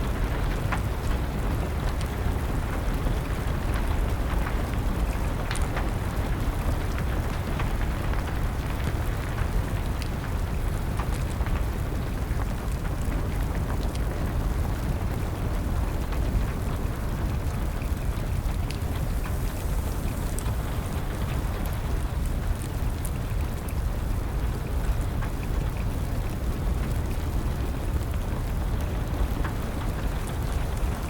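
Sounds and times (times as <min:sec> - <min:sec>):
steady rain: 0:00.0 - 0:31.0
wood fire popping and crackling: 0:00.0 - 0:31.0.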